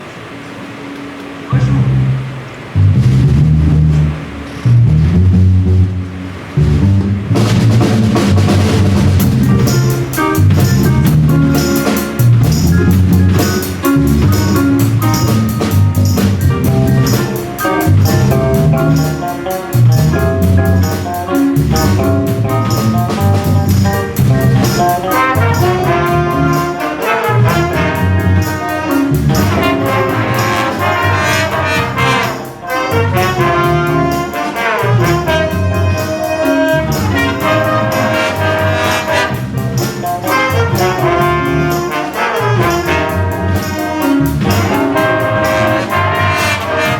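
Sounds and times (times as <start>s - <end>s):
horns playing riffs: 1.5s - 46.9s
drum kit and bass beat: 2.8s - 46.9s.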